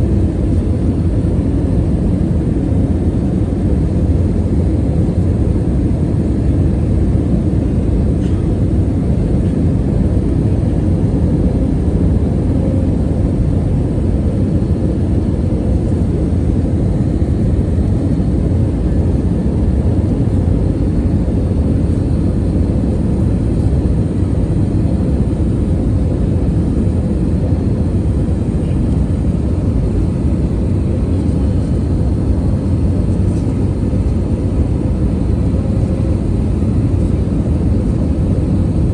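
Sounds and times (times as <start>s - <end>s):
airliner engine rumble: 0.0s - 38.9s.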